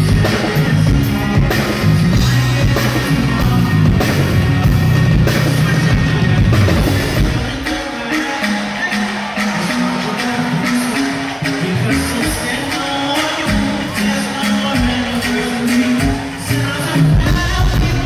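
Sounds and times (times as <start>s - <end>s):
live rock band playing loudly: 0.0s - 18.0s.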